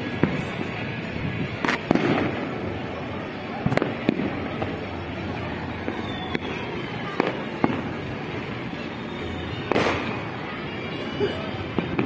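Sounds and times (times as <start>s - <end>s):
distant fireworks bangs: 0.0s - 12.0s.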